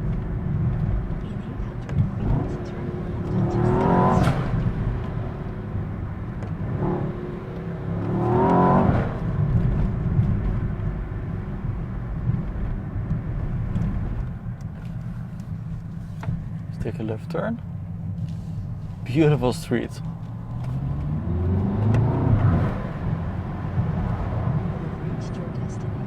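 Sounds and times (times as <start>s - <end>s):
car engine accelerating: 0.0s - 26.0s
road noise: 0.0s - 26.0s.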